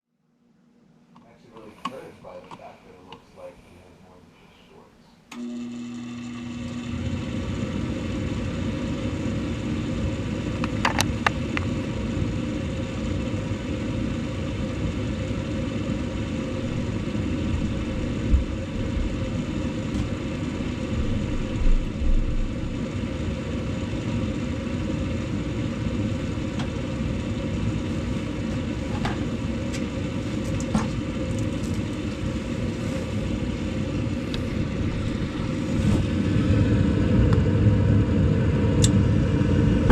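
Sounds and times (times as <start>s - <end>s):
furnace rumble and hum: 0.2s - 39.9s.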